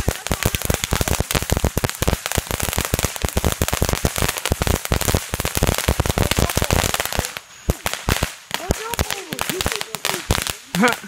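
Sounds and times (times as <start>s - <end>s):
firecrackers cracking and popping: 0.0s - 11.0s.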